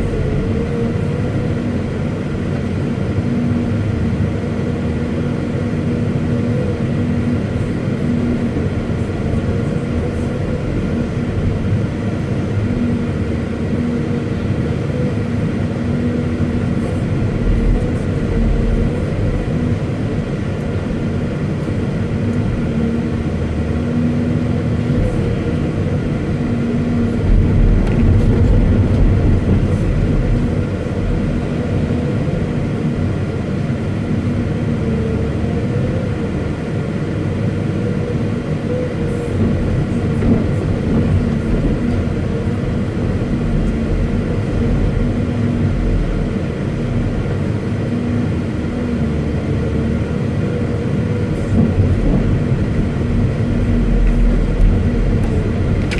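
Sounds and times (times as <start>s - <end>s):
excavator diesel engine humming: 0.0s - 55.9s.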